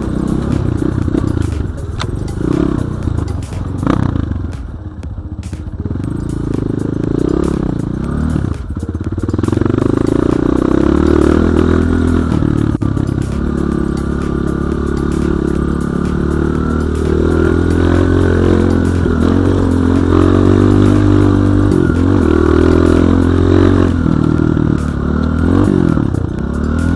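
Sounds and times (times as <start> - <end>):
motorcycle engine running: 0.0 - 26.9
motorcycle rattles and clicks: 0.0 - 26.9.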